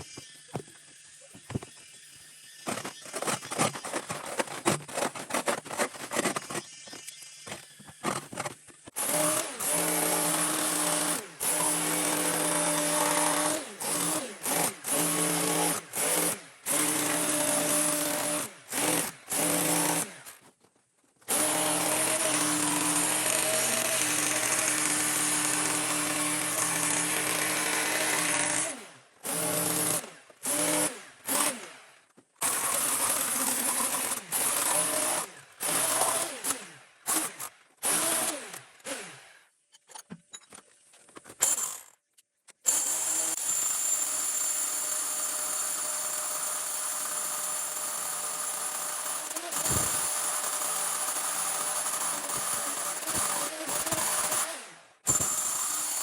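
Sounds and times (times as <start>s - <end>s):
power tool motor running: 0.0s - 20.3s, 21.3s - 39.4s, 42.7s - 56.0s.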